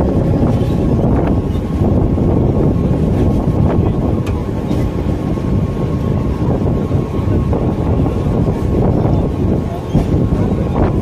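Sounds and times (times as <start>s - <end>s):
train wheels rumbling on rails: 0.0s - 11.0s
wind buffeting microphone: 0.0s - 11.0s.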